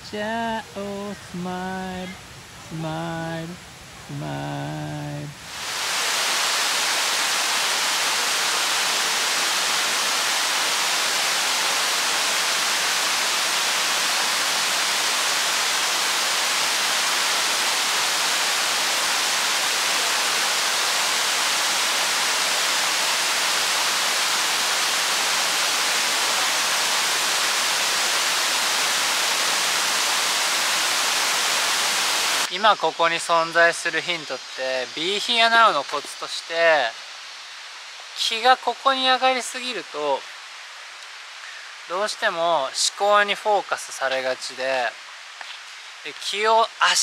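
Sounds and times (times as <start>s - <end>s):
waterfall rushing over rock: 0.0s - 47.0s.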